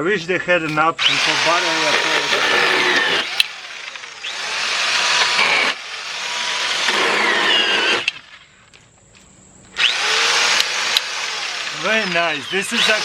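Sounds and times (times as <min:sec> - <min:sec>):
electric chainsaw cutting branches: 0:01.0 - 0:08.4, 0:09.8 - 0:13.0.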